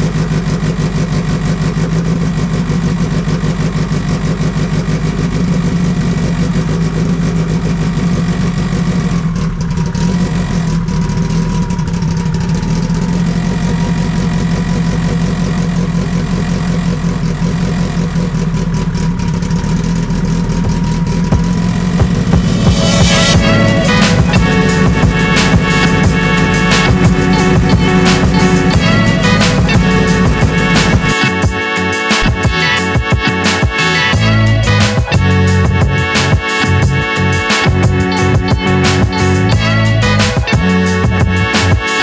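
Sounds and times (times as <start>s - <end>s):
race car engine idling: 0.0s - 41.8s.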